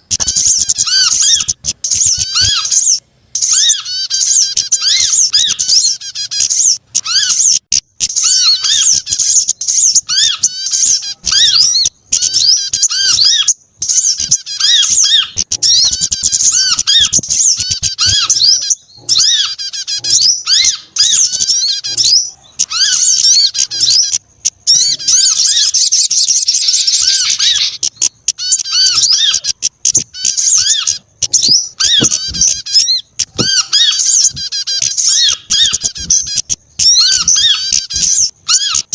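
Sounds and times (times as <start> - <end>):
songbirds chirping and whistling: 0.0 - 38.9.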